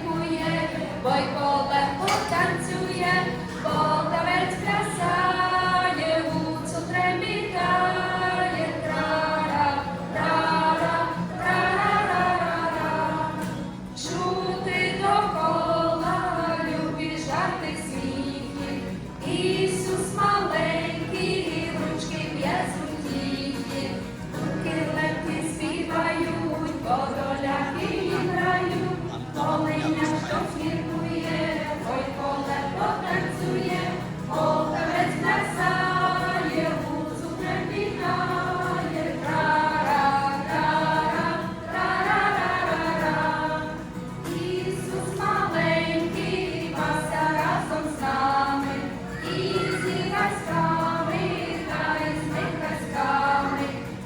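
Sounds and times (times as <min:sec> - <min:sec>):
group singing a carol: 0:00.0 - 0:54.0.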